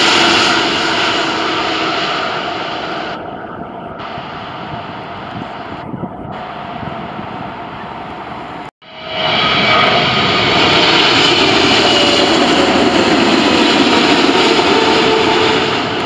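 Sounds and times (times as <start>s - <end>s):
jet engines rumbling with whine: 0.0s - 16.0s.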